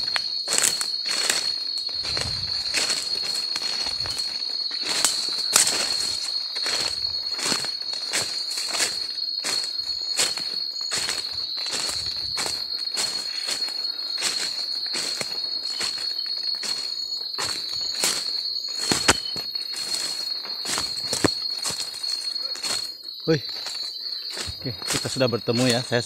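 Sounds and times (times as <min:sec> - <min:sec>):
footsteps crunching dry leaves: 0:00.0 - 0:26.0
insects droning: 0:00.0 - 0:26.0.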